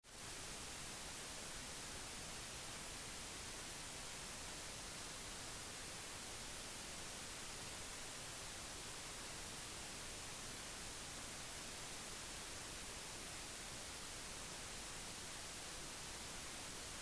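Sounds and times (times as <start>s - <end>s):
steady static hiss: 0.1s - 17.0s.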